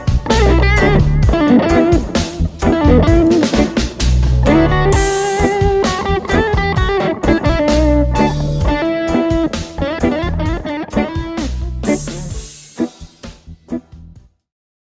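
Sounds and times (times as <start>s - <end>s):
distorted electric guitar: 0.0s - 13.9s.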